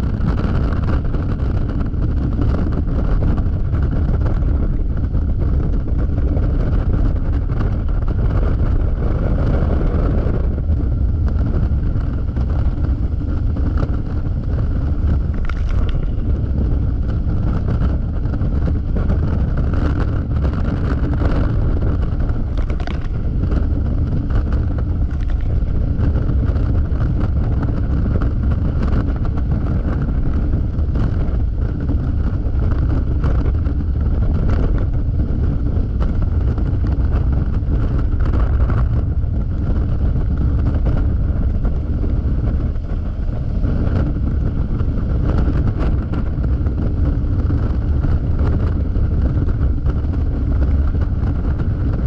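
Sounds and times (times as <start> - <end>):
scooter engine running: 0.0 - 52.0
wind rushing over microphone: 0.0 - 52.0.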